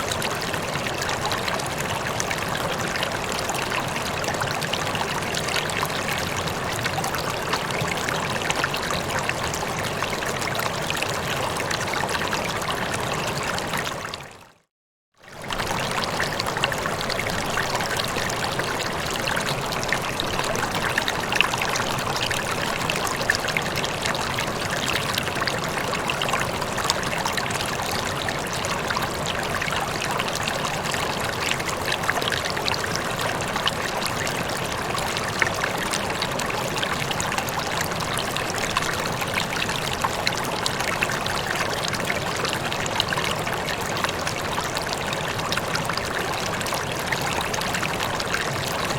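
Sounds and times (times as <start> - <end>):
rippling water flowing: 0.0 - 14.6, 15.2 - 48.9.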